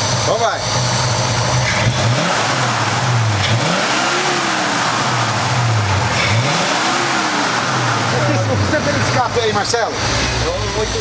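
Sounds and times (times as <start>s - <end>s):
engine idling and revving: 0.0s - 11.0s.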